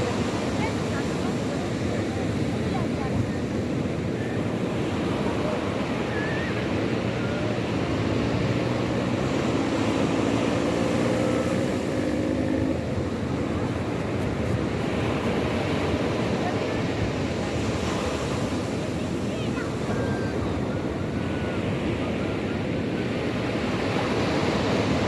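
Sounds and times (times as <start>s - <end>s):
sea surf washing on shore: 0.0s - 25.0s.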